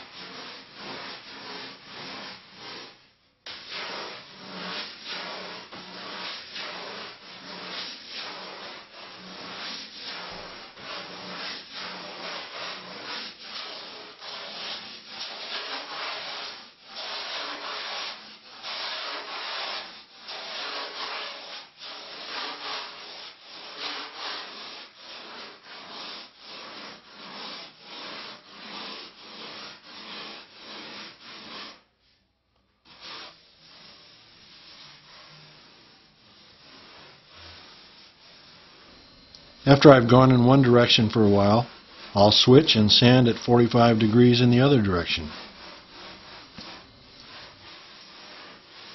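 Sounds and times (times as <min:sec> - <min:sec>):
sandpaper scraping foam: 0:00.0 - 0:48.9.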